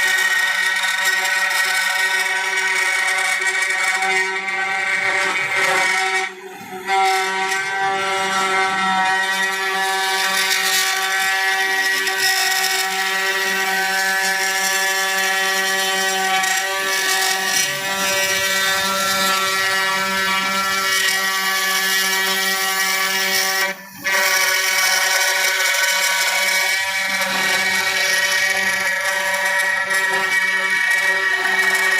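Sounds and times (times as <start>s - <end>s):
bit cutting wood: 0.0s - 31.9s
router spindle whine: 0.0s - 31.9s.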